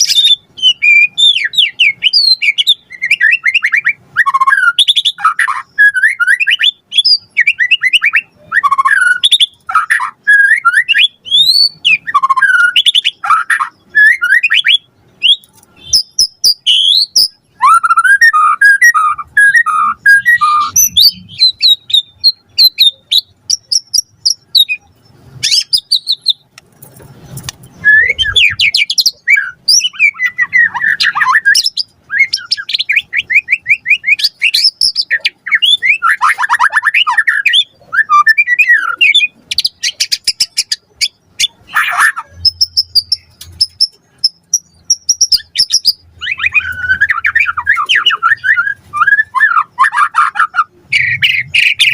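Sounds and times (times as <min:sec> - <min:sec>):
bird singing whistles and trills: 0:00.0 - 0:26.4, 0:27.7 - 0:51.9.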